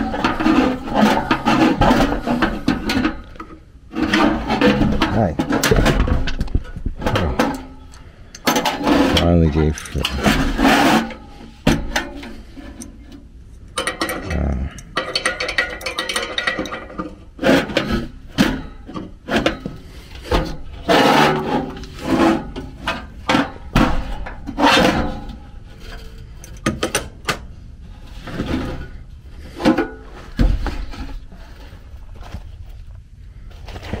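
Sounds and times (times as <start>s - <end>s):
metal clatters: 0.0s - 27.5s.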